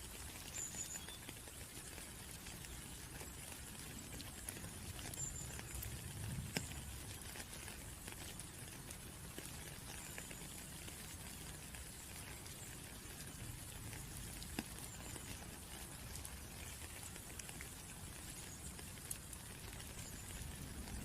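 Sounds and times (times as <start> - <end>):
rain pattering: 0.0 - 21.0
water drip clicks: 0.0 - 21.0.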